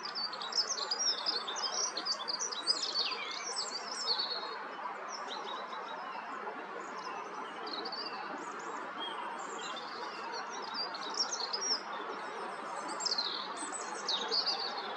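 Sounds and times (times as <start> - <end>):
songbird chirping and twittering: 0.0 - 14.9.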